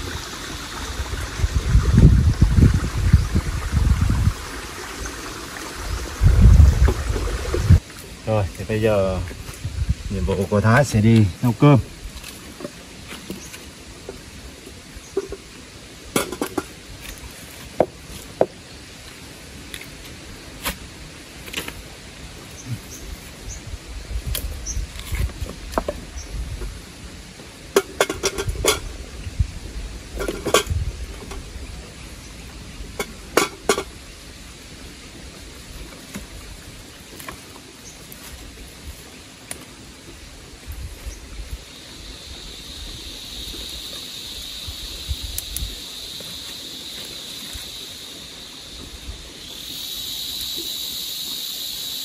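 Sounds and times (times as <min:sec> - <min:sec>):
steady background hiss: 0:00.0 - 0:52.0.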